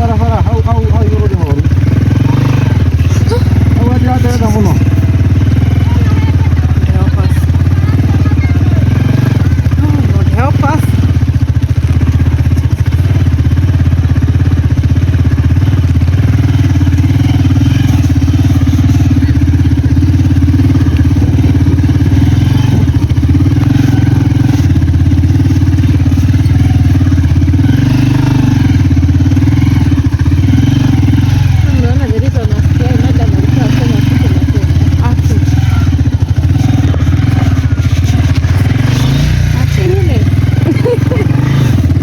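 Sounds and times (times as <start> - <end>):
motorbike engine running: 0.0 - 42.0.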